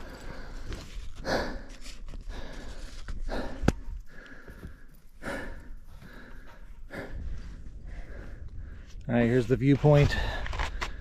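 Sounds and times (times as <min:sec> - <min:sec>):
person breathing hard: 0:00.0 - 0:09.0.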